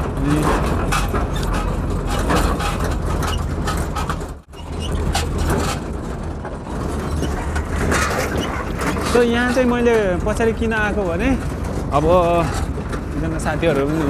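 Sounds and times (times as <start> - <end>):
road noise: 0.0 - 14.0
truck engine droning: 0.0 - 14.0.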